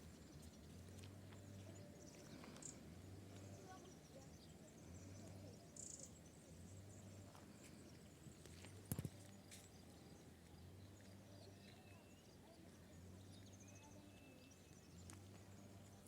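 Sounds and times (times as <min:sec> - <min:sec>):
faint bird chirps: 0:01.5 - 0:16.0.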